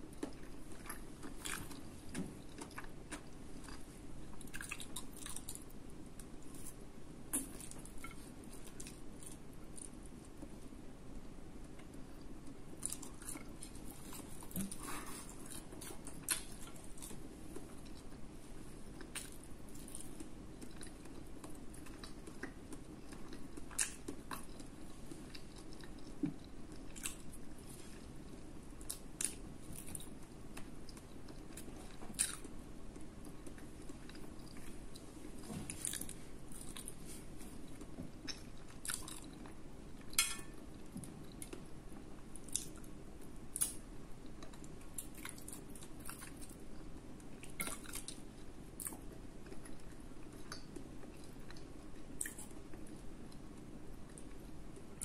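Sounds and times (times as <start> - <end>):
low background hum: 0.0 - 55.0
chewing with wet mouth smacks: 0.1 - 10.4, 19.0 - 42.9, 43.5 - 55.0.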